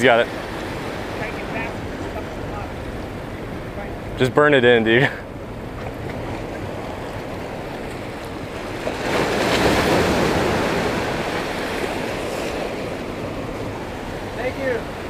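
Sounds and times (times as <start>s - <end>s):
waves washing against rocks: 0.0s - 3.9s, 4.7s - 15.0s.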